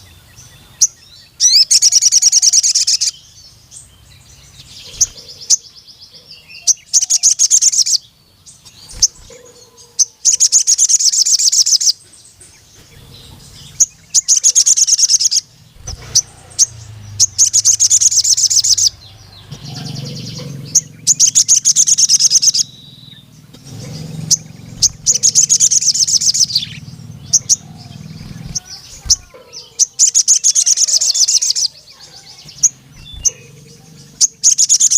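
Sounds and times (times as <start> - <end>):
bird chirps: 0.0 - 34.9
bird trilling: 0.6 - 3.3, 4.0 - 34.9.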